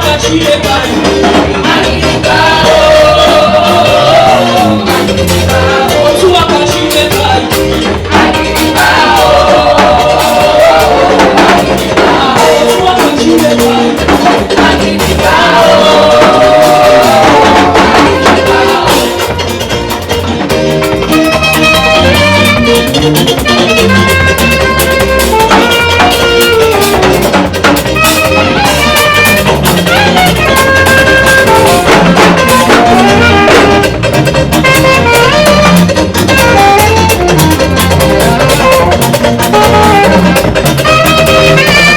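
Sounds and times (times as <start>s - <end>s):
drum kit beat: 0.0s - 41.9s
gospel band music: 0.0s - 41.9s.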